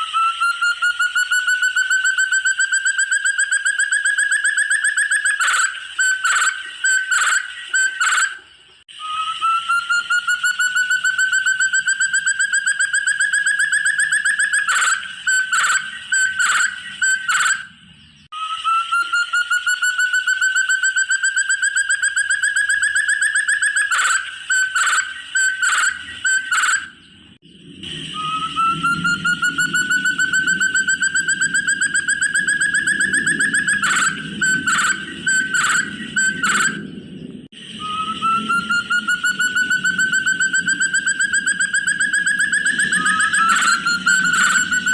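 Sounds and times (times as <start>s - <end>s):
partridge calling in pulsed notes: 0.0s - 44.9s.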